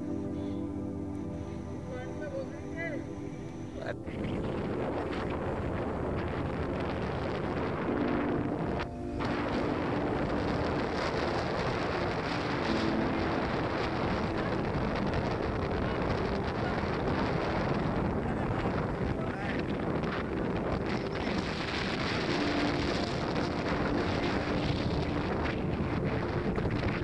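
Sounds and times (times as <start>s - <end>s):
wind blowing across microphone: 0.0s - 27.0s.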